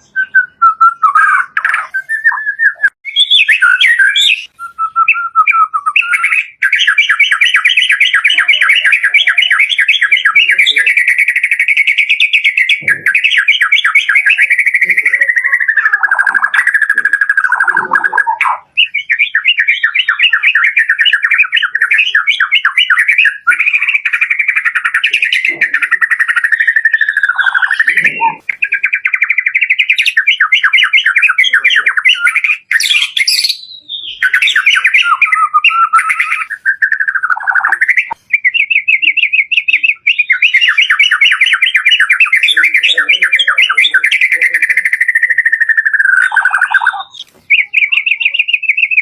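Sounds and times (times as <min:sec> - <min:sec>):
songbird trilling and whistling: 0:00.0 - 0:49.0.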